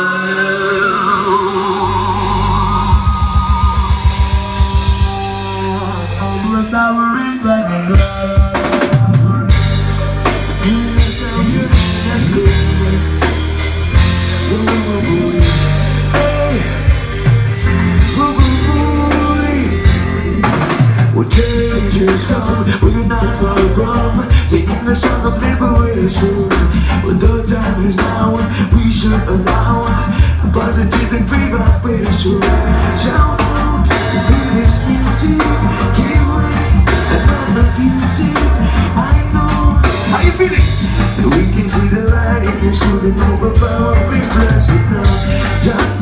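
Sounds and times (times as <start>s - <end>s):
drum kit: 0.0s - 7.2s, 7.8s - 46.0s
rapid low notes: 0.0s - 46.0s
reggae band playing: 0.0s - 46.0s.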